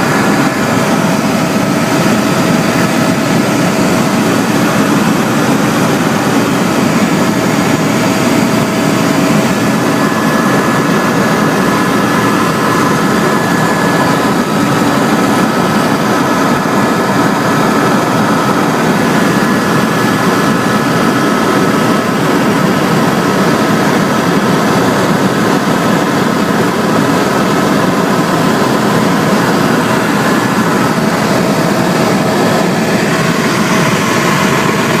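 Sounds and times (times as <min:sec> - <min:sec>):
aircraft engine and cabin drone: 0:00.0 - 0:35.0.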